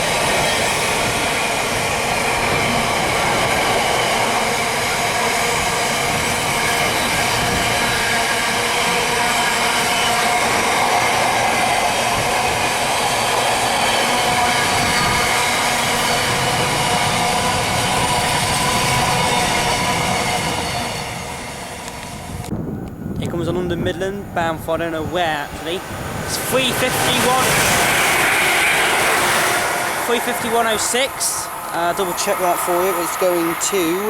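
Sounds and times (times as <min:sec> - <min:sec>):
train wheels on rails: 0:00.0 - 0:23.4, 0:24.8 - 0:34.0.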